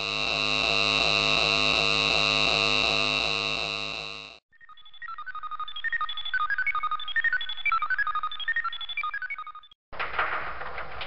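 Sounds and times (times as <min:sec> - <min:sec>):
electronic beeps: 0:00.0 - 0:09.8.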